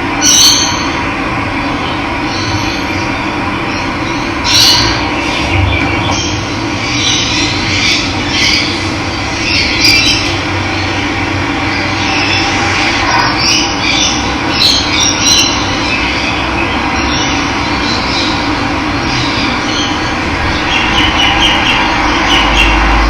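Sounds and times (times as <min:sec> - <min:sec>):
birds chirping: 0:01.6 - 0:23.0.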